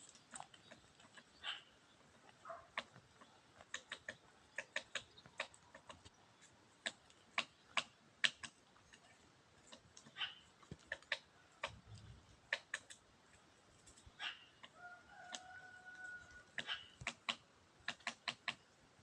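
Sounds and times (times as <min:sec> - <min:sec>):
woodpecker tapping on tree: 0:00.0 - 0:13.0, 0:14.6 - 0:18.7.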